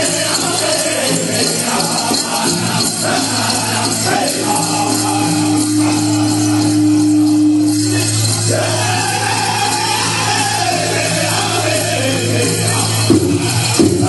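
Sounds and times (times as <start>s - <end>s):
dancers' bells jingling: 0.0s - 14.0s
drum group drumming and singing: 0.0s - 14.0s.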